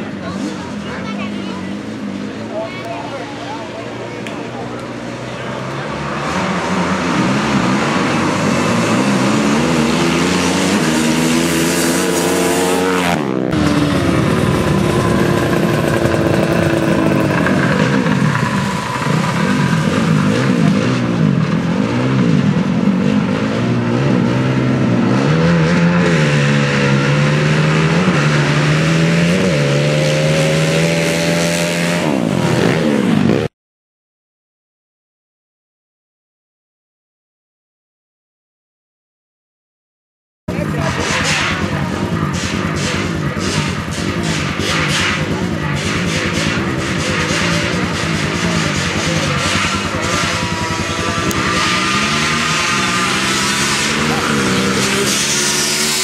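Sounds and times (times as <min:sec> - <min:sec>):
atv engines revving: 0:00.0 - 0:33.5, 0:40.5 - 0:56.0.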